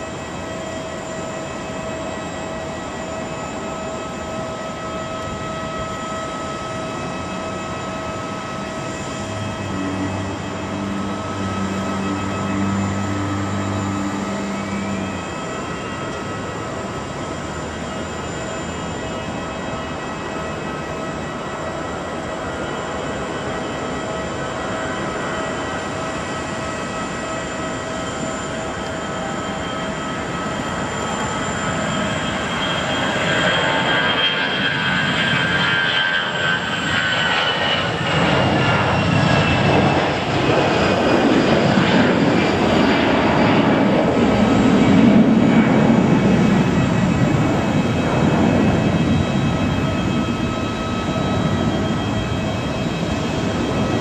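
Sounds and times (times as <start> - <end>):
jet engine whine: 0.0 - 54.0.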